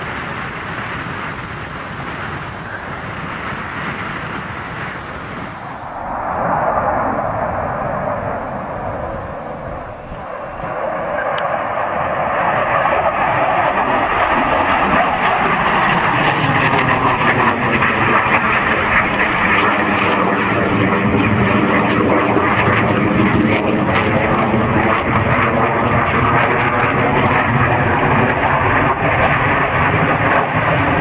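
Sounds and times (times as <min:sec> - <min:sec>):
aircraft engine passing overhead: 0:00.0 - 0:31.0.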